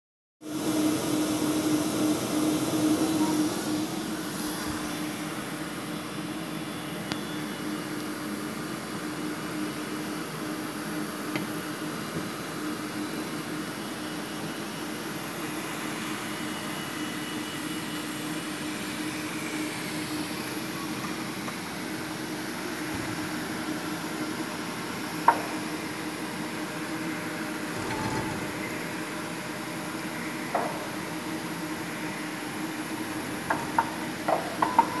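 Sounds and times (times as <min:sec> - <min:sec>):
machine mechanical hum: 0:00.4 - 0:35.0.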